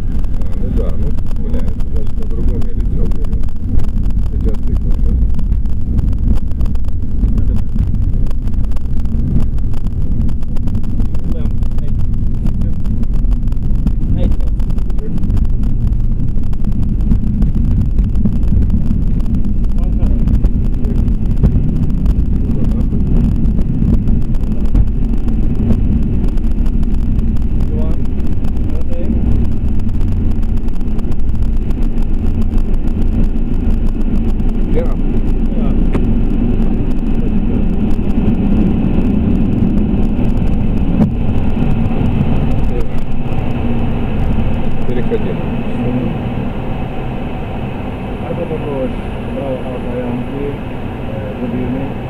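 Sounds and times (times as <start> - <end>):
airliner engines rumbling: 0.0 - 52.0.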